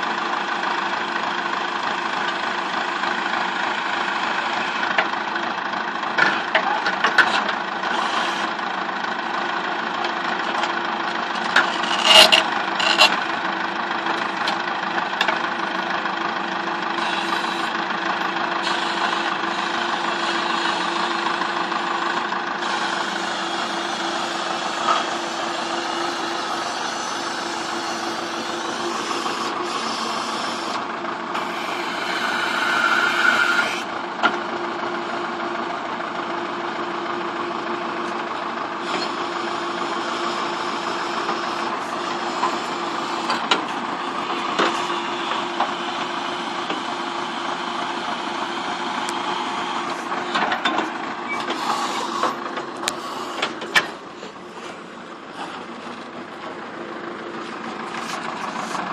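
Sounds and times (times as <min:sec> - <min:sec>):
tractor engines running: 0:00.0 - 0:58.9.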